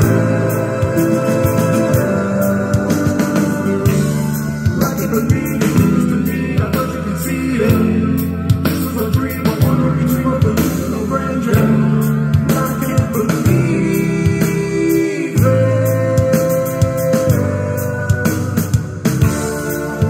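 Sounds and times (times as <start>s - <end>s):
song with singing drums and bass: 0.0s - 20.0s.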